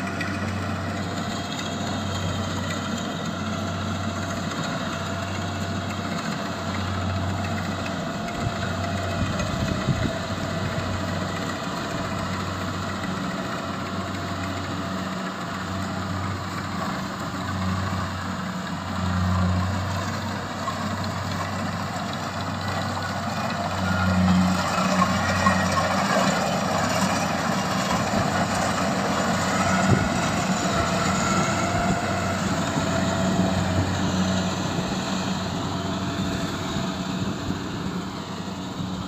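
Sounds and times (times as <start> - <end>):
harvesting machine running: 0.0 - 39.0.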